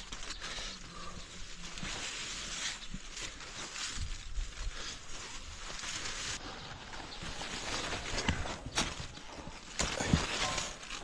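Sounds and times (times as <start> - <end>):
plant leaves rustling: 0.0 - 11.0.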